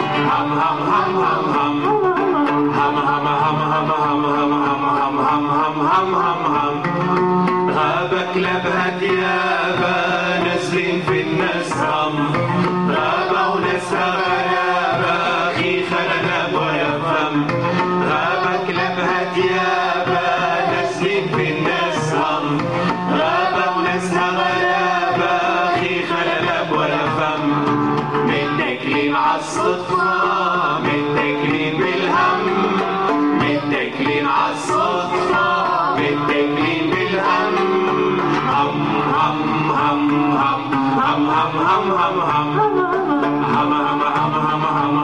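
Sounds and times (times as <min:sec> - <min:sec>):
hand drum beat: 0:00.0 - 0:45.0
ornamented singing voice: 0:00.0 - 0:45.0
oud melody: 0:00.0 - 0:45.0.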